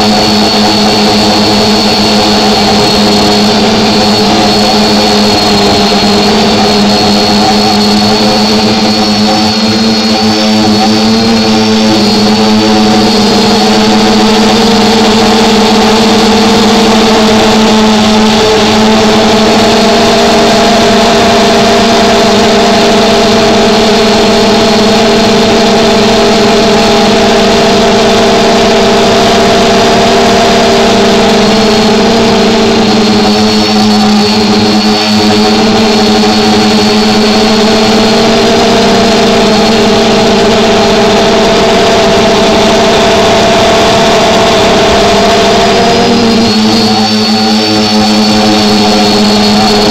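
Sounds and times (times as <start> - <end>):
drone propellers humming: 0.0 - 49.9.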